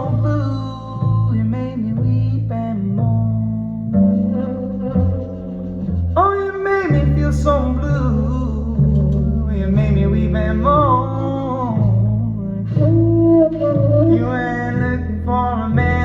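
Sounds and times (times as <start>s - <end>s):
plucked bass line: 0.0s - 16.0s.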